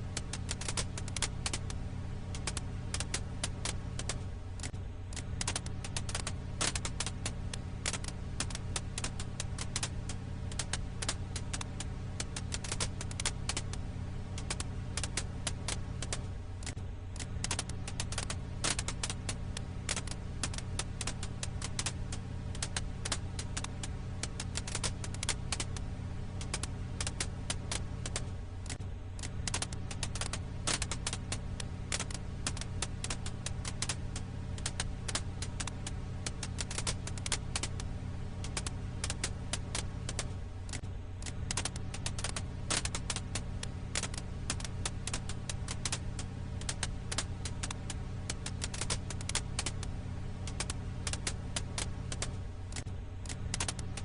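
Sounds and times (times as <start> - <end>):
campfire crackling and popping: 0.0 - 54.0
steady low hum: 0.0 - 54.0.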